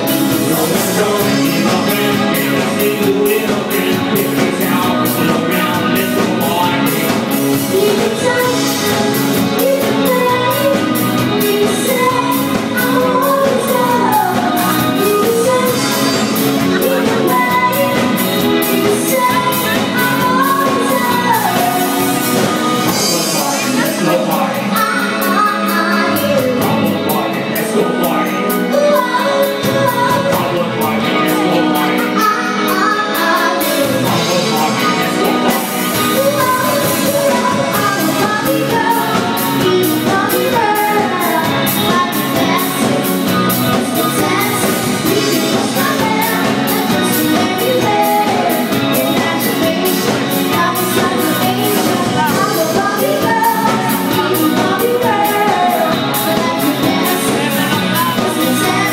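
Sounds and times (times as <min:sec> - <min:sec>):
steady drum beat: 0:00.0 - 0:24.8, 0:33.6 - 0:58.9
live pop-rock band: 0:00.0 - 0:58.9
woman singing into microphone: 0:00.0 - 0:58.9.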